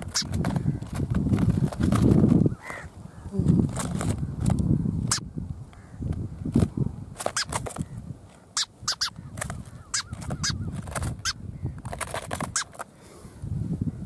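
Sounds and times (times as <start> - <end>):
rustling of bird being handled: 0.0 - 4.7, 6.5 - 13.2.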